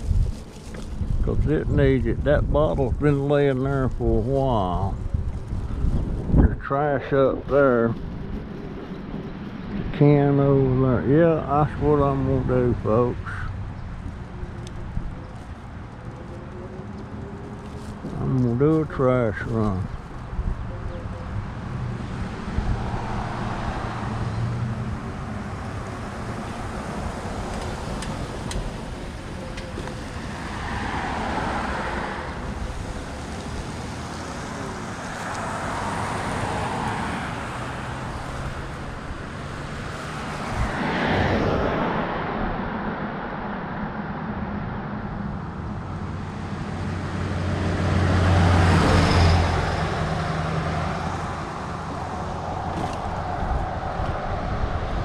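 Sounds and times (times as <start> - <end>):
tyre and road noise: 0.0 - 55.0
vehicle engine hum: 0.0 - 55.0.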